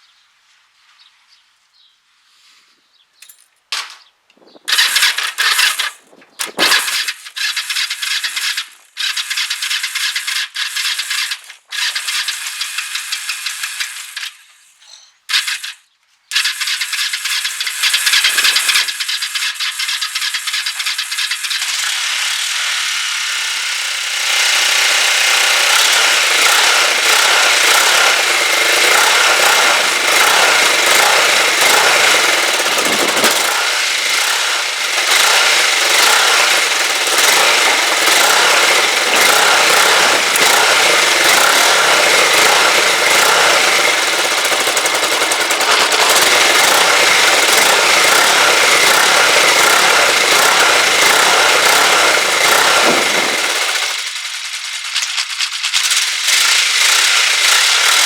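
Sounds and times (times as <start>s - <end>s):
motorcycle engine running: 4.5s - 14.2s, 16.4s - 58.0s.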